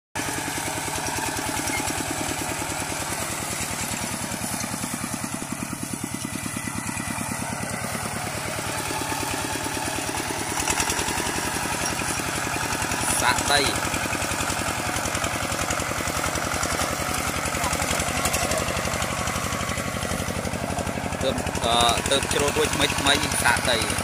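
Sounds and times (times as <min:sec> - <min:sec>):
diesel tractor engine chugging: 0:00.2 - 0:24.0.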